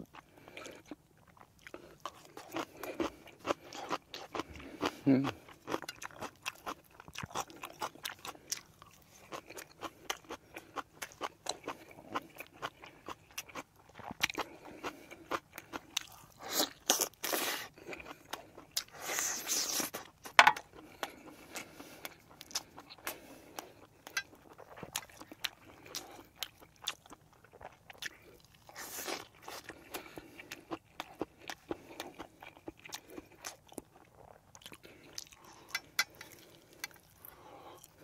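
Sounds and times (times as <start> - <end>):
man chewing food: 0.0 - 38.0.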